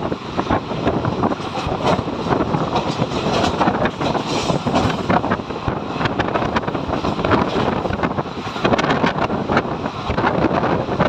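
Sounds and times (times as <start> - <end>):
wind buffeting microphone: 0.0 - 11.0
train wheels clattering: 0.4 - 10.7.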